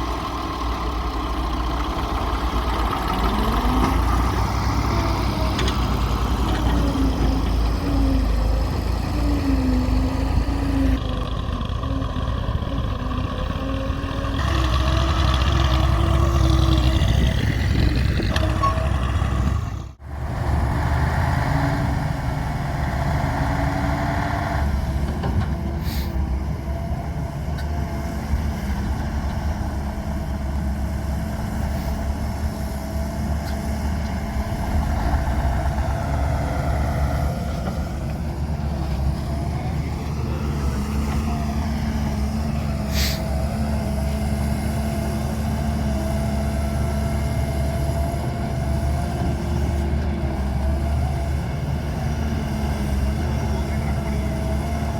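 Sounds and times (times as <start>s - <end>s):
diesel engine hum with whine: 0.0s - 54.9s.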